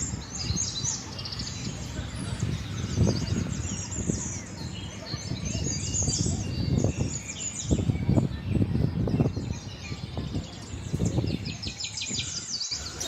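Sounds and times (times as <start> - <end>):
low rumble on microphone: 0.0 - 13.0
small birds chirping: 0.0 - 13.0.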